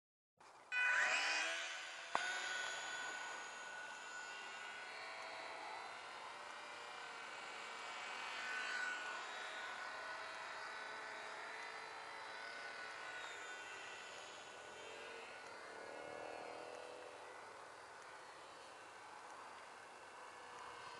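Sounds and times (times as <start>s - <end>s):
rc plane electric motor whine: 0.5s - 20.9s.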